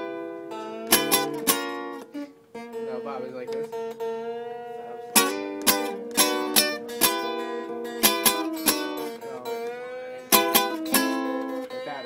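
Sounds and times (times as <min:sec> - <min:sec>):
classical guitar strummed: 0:00.0 - 0:12.0.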